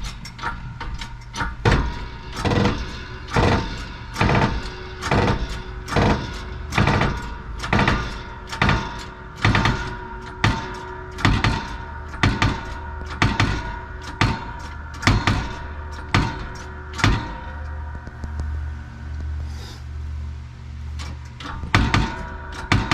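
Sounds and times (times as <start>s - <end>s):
hammer striking steel: 0.0s - 18.0s, 21.0s - 22.9s.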